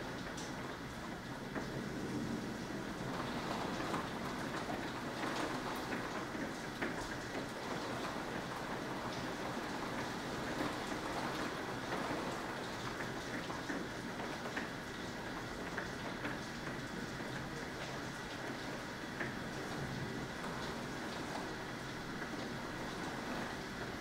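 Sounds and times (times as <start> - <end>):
heavy rain hiss: 0.0 - 24.0
raindrops ticking nearby: 0.0 - 24.0.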